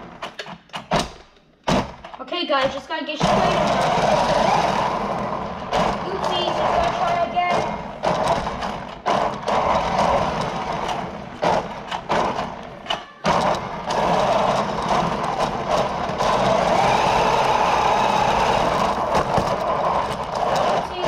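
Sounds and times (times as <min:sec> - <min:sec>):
sharp knocks: 0:00.0 - 0:21.0
tyres skidding: 0:01.0 - 0:21.0
toy car motor whirring: 0:03.2 - 0:12.1, 0:12.9 - 0:21.0.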